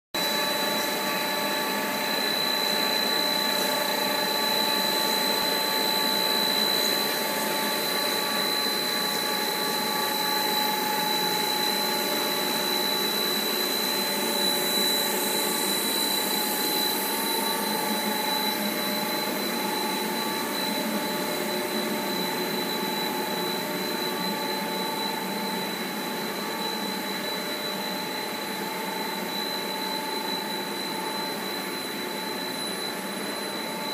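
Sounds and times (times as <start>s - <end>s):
high-pitched machine whine: 0.2s - 33.9s
machine whirring: 0.2s - 33.9s.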